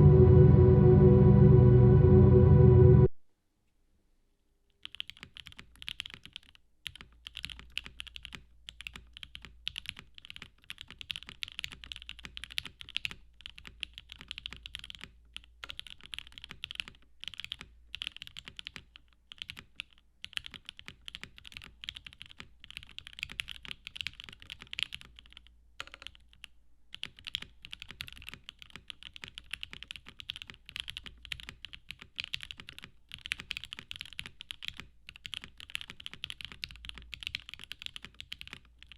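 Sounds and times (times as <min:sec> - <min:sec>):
mechanical keyboard typing: 0:04.8 - 0:38.9.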